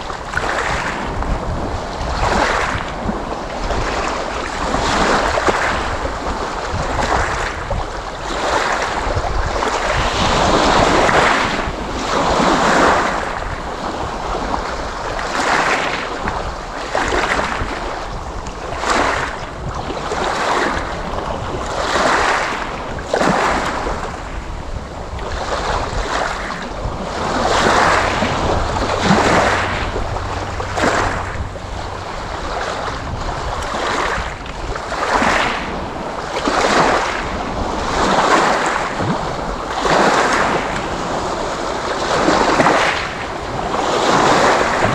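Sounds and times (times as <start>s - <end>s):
sea waves breaking: 0.0s - 44.9s.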